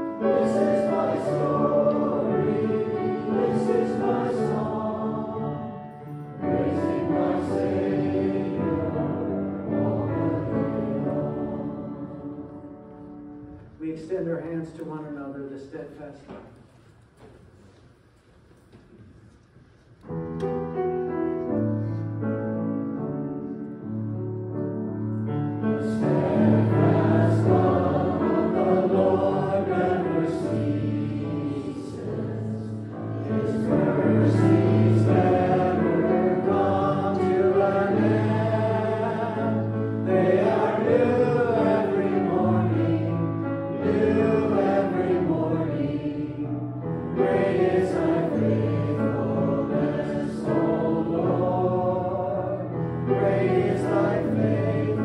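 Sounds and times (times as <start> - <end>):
piano accompaniment: 0.0 - 14.4, 20.0 - 55.0
congregation singing a hymn: 0.0 - 14.8, 25.2 - 55.0.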